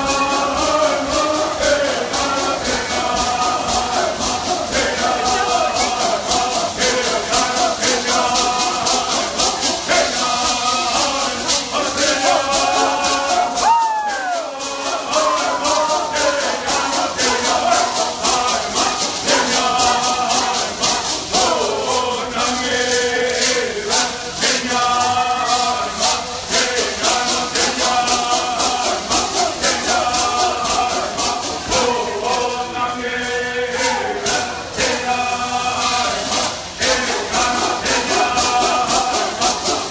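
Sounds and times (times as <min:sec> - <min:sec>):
hand rattles shaken: 0:00.0 - 0:39.9
voices chanting together: 0:00.0 - 0:39.9.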